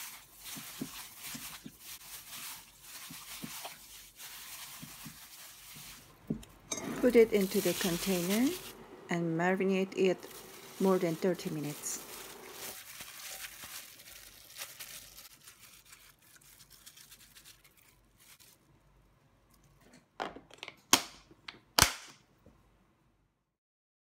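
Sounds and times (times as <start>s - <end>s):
plastic glove crinkling and squishing: 0.0s - 19.7s.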